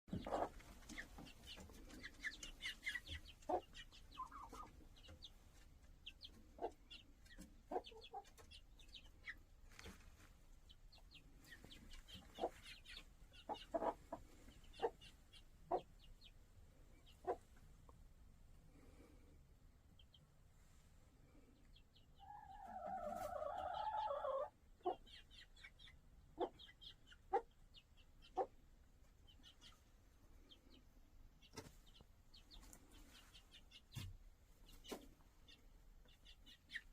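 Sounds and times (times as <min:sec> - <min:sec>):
chickens clucking: 0:00.1 - 0:18.2, 0:18.8 - 0:36.9.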